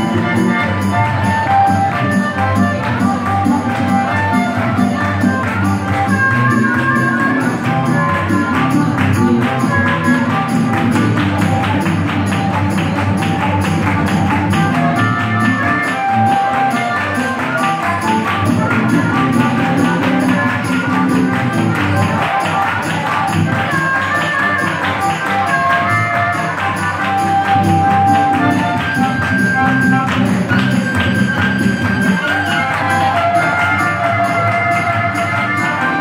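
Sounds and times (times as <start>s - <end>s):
amplified harmonica: 0.0s - 36.0s
live blues band playing: 0.0s - 36.0s.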